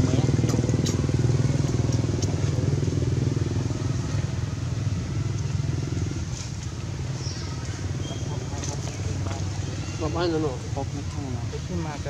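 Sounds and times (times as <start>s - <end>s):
engine running with rapid pulse: 0.0s - 9.7s.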